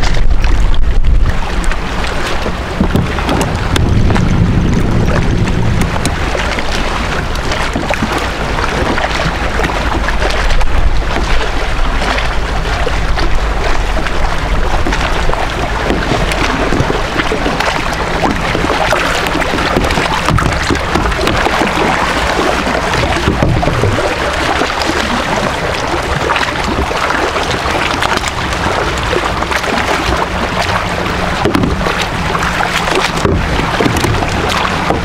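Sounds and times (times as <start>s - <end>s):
fish thrashing and splashing: 0.0s - 35.0s
water lapping around kayak: 0.0s - 35.0s
wind rumbling on microphone: 0.0s - 35.0s.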